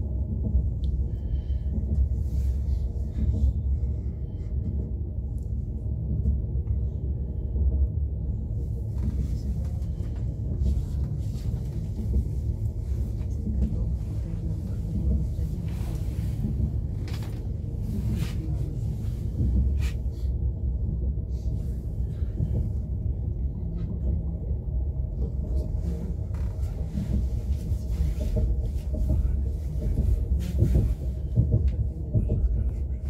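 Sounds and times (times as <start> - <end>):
train low rumble: 0.0 - 33.0.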